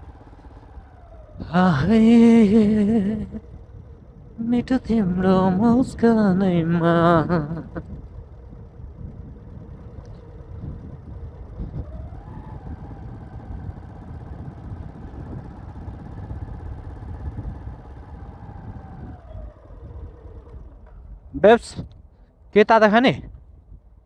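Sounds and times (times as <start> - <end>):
rising whine: 0.0 - 22.0
motorcycle engine running: 0.0 - 22.5
road and wind noise: 0.0 - 24.0.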